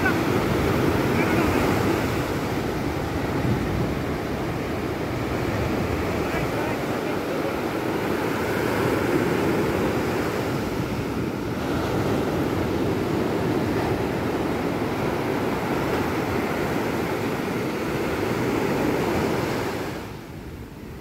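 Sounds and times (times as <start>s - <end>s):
sea surf rushing: 0.0s - 21.0s
wind: 0.0s - 21.0s
wind buffeting microphone: 0.0s - 21.0s.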